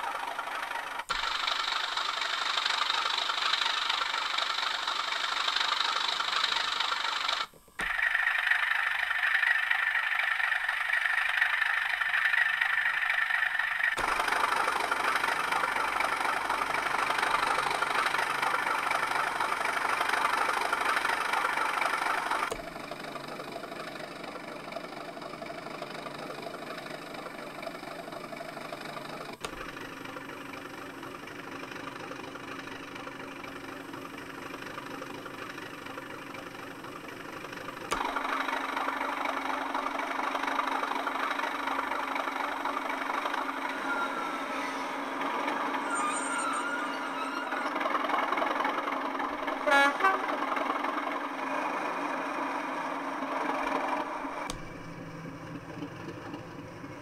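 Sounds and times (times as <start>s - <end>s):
diesel engine drone from speakers: 0.0s - 57.0s.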